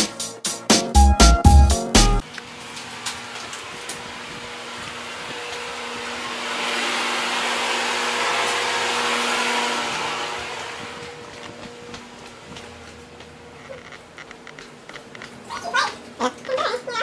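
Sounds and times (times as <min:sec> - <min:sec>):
ventilation fan running: 0:02.2 - 0:17.0.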